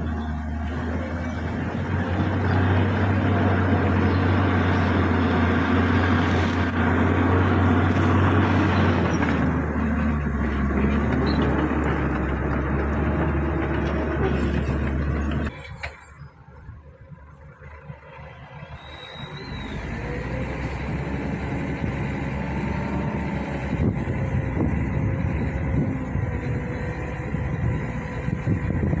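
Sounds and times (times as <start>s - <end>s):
bulldozer diesel engine: 0.0s - 29.0s.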